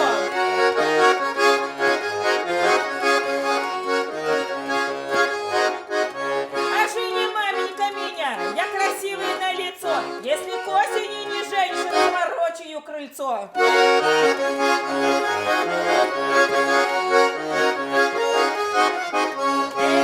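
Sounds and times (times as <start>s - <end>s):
button accordion playing: 0.0s - 12.6s, 13.6s - 20.0s.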